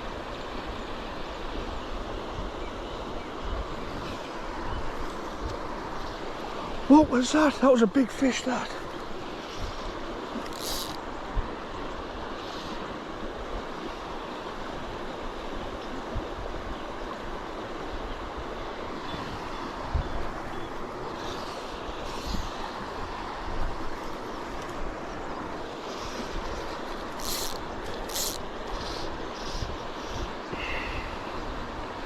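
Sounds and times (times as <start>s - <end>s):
flowing river water: 0.0s - 32.0s.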